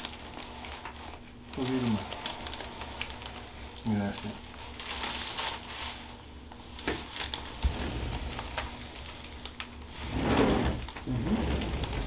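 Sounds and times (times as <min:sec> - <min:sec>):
rustling on paper headrest: 0:00.0 - 0:12.0.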